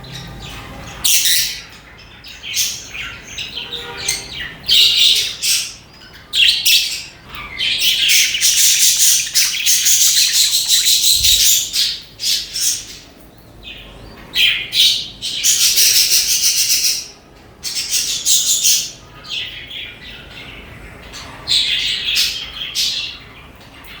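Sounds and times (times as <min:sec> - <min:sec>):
budgerigars chirping and chattering: 0:00.0 - 0:24.0.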